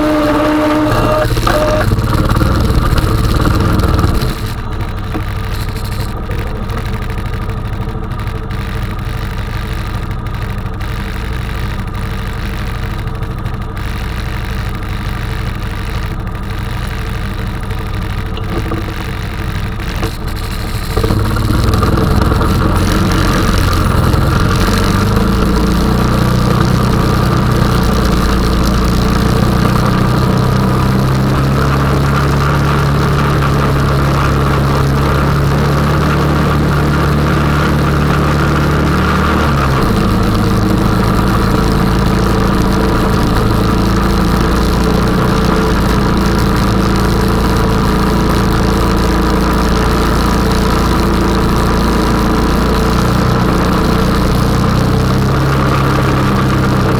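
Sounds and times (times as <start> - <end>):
atv engine idling and revving: 0.0 - 56.9.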